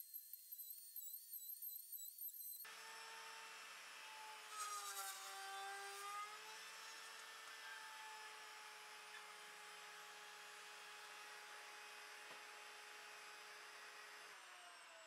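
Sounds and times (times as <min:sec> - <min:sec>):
router whine cutting wood: 0:01.8 - 0:15.0.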